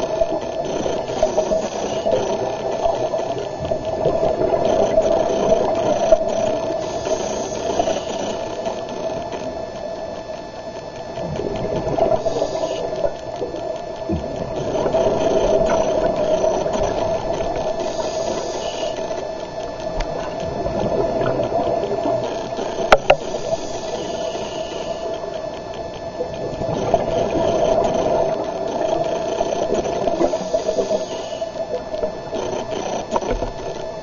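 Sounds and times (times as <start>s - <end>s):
diver breathing through regulator: 0.0s - 3.6s, 4.3s - 9.2s, 11.4s - 13.4s, 14.2s - 19.4s, 20.2s - 25.5s, 26.5s - 33.8s
underwater bubbles rushing: 0.0s - 34.0s.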